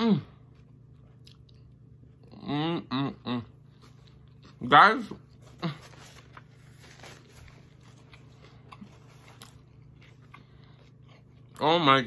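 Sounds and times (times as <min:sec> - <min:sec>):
low steady hum: 0:00.0 - 0:12.0
person chewing food: 0:00.4 - 0:04.6, 0:05.3 - 0:11.6.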